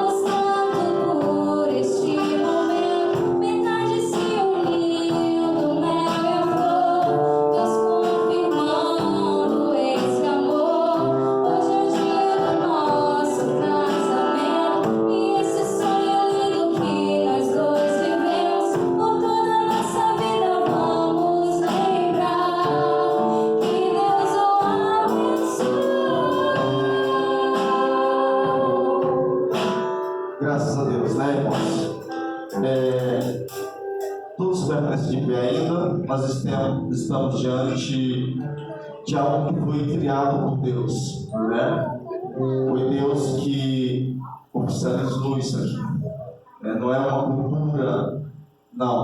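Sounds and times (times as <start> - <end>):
woman singing gospel song: 0.0 - 30.3, 37.4 - 46.7.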